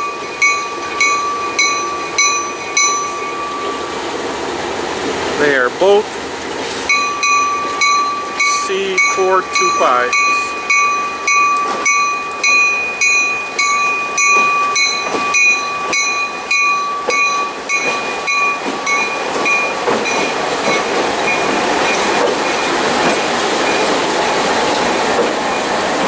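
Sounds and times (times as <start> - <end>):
moving train rolling noise: 0.0 - 26.0
railroad bell ringing: 0.0 - 26.0.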